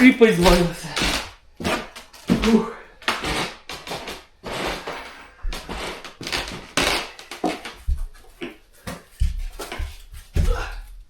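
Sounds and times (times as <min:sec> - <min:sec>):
wooden panels scraping: 0:00.0 - 0:10.3.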